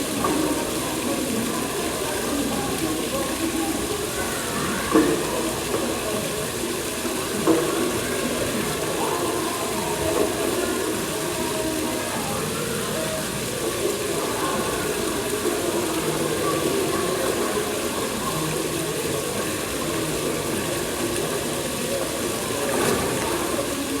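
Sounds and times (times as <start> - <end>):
people talking: 0.0 - 24.0
waterfall splashing: 0.0 - 24.0.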